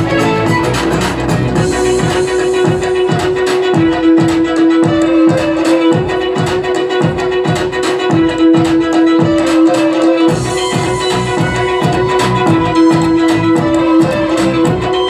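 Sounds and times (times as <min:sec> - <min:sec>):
plucked strings backing track: 0:00.0 - 0:15.0
violin slow melody: 0:00.0 - 0:15.0.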